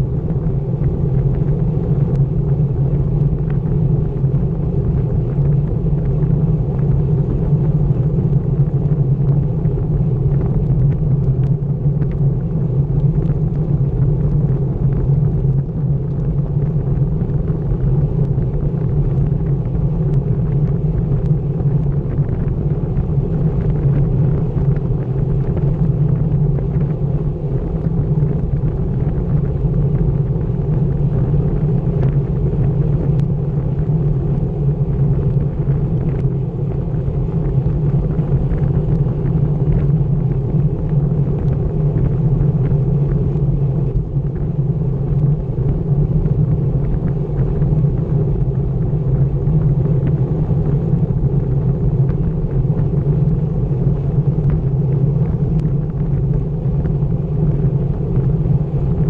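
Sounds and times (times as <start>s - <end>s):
bike tyres rumbling on asphalt: 0.0s - 59.0s
wind buffeting on microphone: 0.0s - 59.0s.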